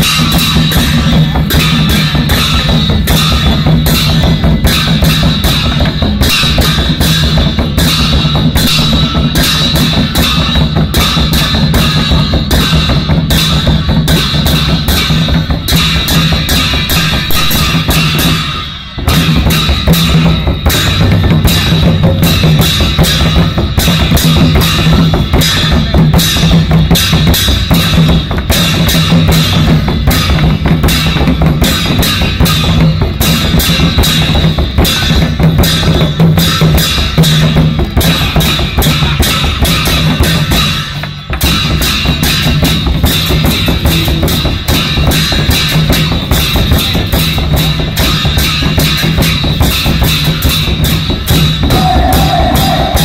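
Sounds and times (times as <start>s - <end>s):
cymbals ringing: 0.0s - 53.0s
fast drumming on small drums: 0.0s - 53.0s.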